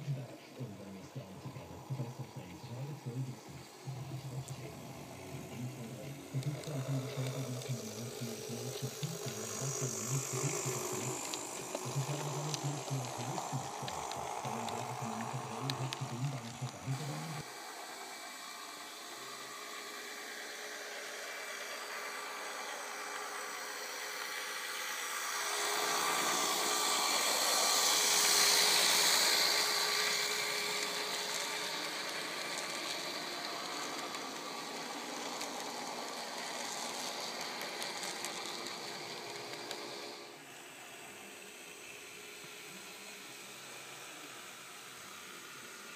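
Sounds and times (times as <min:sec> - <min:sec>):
model train whirring: 0:00.0 - 0:45.9.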